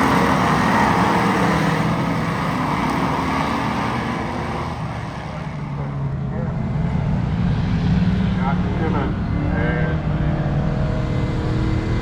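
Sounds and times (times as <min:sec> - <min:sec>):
race car engines drone: 0:00.0 - 0:12.0.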